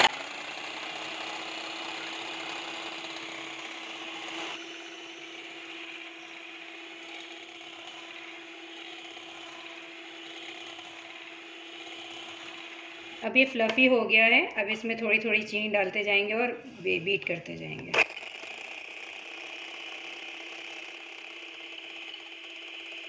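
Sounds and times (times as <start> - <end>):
electric hand mixer whirring: 0.0 - 13.8, 17.9 - 23.0.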